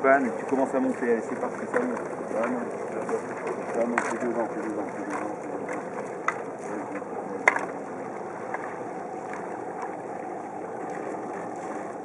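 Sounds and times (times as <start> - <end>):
boat moving through icy water: 0.0 - 12.0.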